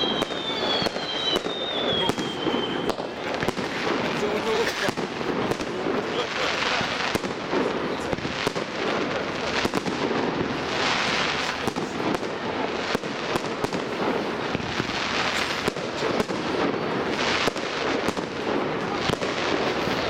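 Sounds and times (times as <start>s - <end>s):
fireworks crackling: 0.0s - 20.0s
fireworks sharp bangs: 0.0s - 20.0s.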